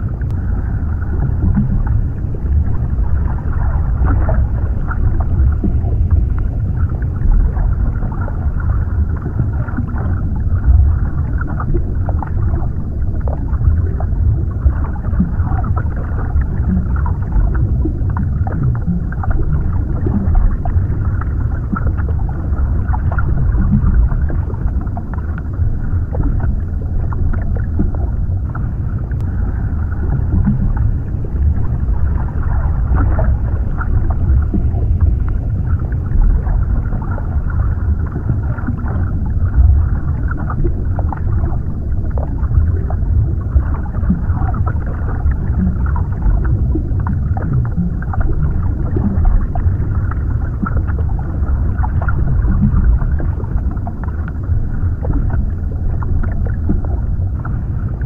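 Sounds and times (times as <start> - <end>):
faint crackles and ticks: 0.0 - 0.4, 4.0 - 58.0
deep underwater rumble: 0.0 - 58.0.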